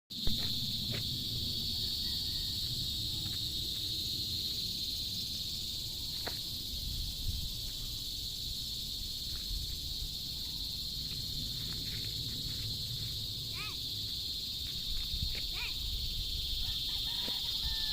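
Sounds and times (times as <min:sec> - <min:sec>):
insects chirping: 0:00.1 - 0:17.9.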